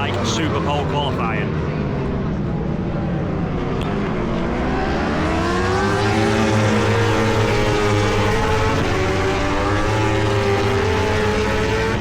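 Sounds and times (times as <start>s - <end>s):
racing motorcycle accelerating: 0.0s - 12.0s.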